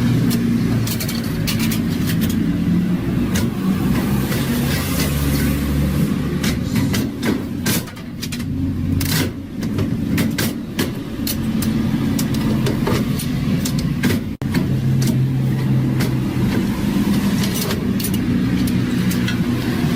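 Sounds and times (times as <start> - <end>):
sharp clicks and knocks: 0.2 - 2.6, 3.2 - 5.6, 6.3 - 19.9.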